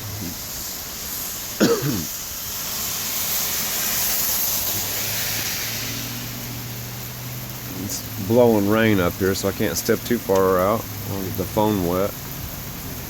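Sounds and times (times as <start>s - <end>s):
heavy wind-driven rain: 0.0s - 13.0s.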